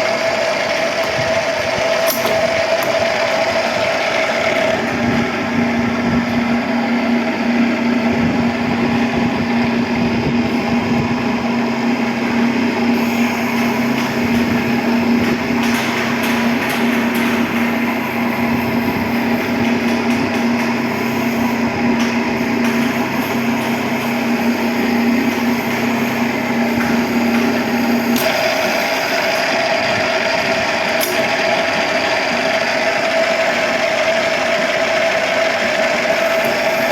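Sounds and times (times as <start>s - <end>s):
pipe-threading machine running: 0.0s - 36.9s.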